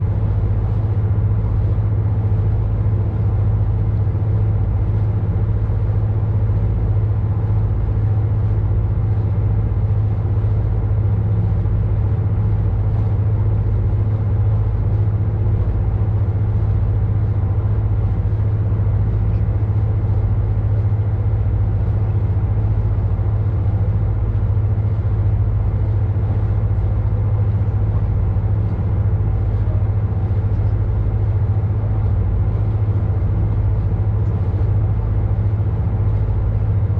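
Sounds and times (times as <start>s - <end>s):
ship engine humming: 0.0s - 36.9s.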